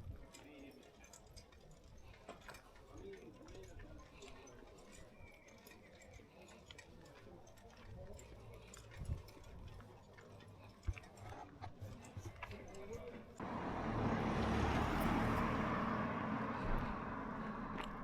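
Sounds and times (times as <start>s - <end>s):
faint distant voices: 0.0s - 18.0s.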